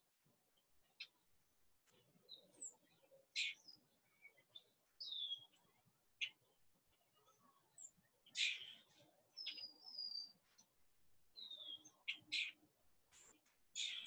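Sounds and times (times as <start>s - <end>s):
faint songbird chirps: 0.0s - 14.0s.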